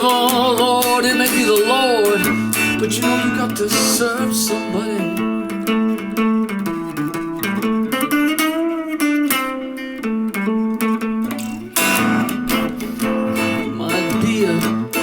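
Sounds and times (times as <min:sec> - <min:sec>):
guitar picking notes and chords: 0:00.0 - 0:15.0.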